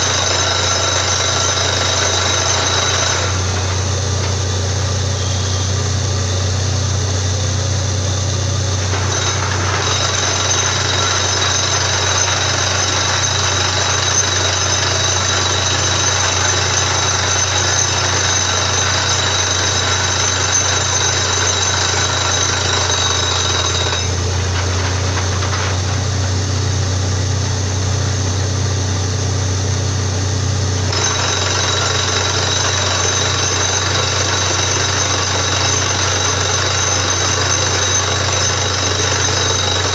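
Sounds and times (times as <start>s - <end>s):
harsh rattling hammering: 0.0s - 5.1s, 8.6s - 26.5s, 30.9s - 39.9s
drilling rig engine drone: 0.0s - 39.9s.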